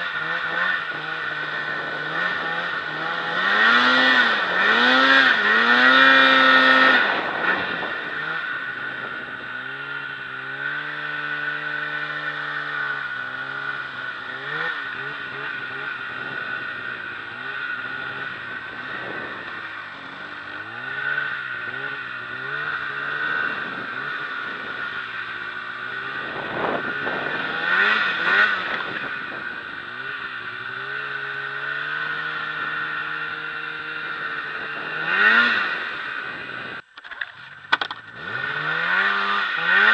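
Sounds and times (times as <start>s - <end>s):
snowmobile engine revving: 0.0s - 36.8s, 38.0s - 39.9s.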